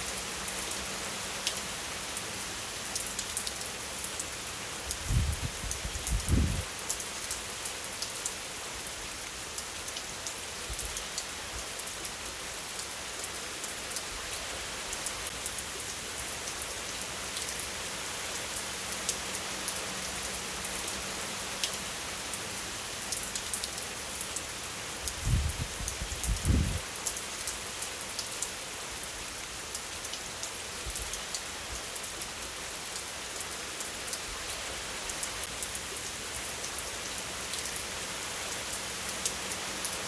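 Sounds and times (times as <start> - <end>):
steady rain: 0.0 - 40.0
raindrops ticking close by: 0.1 - 40.0.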